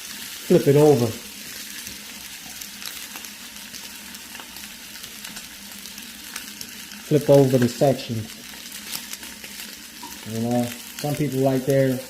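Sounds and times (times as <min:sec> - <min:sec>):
bacon sizzling in a pan: 0:00.0 - 0:12.0.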